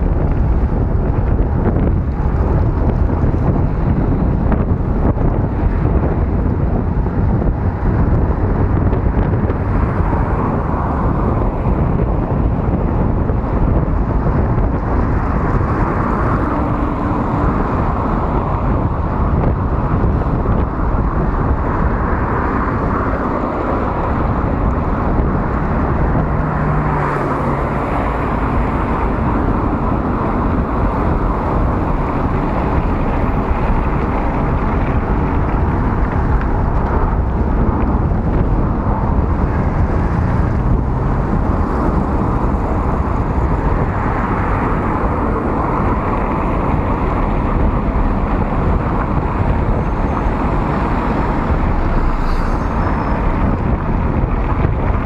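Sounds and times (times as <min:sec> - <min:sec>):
car traffic hum: 0:00.0 - 0:55.0
wind on microphone: 0:00.0 - 0:55.0.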